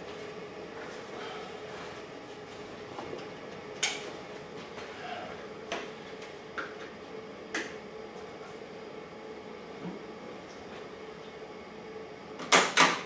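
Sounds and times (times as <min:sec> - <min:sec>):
faint steady hum: 0:00.0 - 0:12.5.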